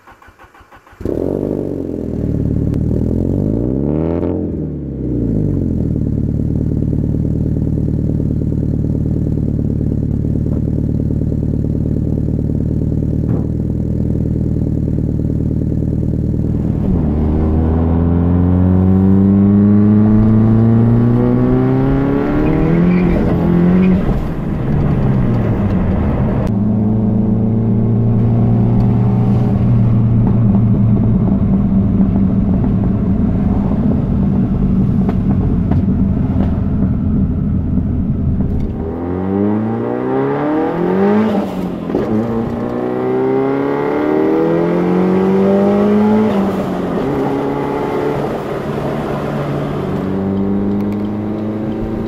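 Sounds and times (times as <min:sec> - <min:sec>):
car engine starting and revving: 0:00.0 - 0:52.0.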